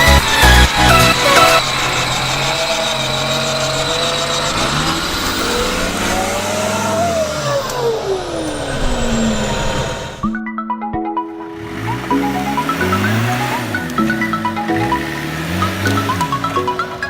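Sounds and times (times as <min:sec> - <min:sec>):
off-road vehicle engine revving: 0:00.0 - 0:10.2, 0:11.5 - 0:17.0.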